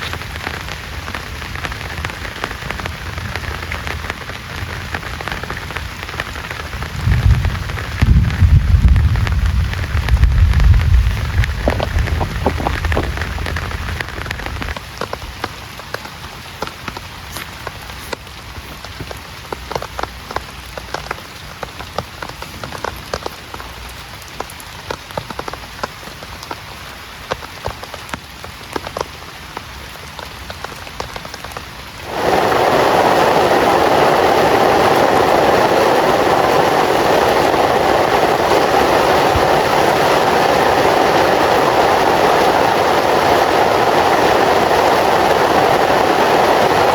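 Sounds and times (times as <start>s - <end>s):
rain falling: 0.0s - 46.9s
raindrops ticking on a surface: 0.0s - 46.9s.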